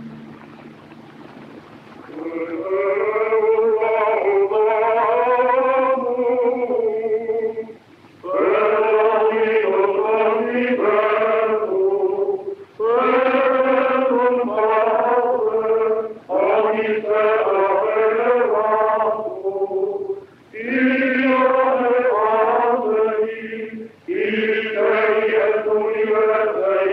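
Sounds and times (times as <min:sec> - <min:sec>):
voices singing a slow chant: 0:02.1 - 0:26.9.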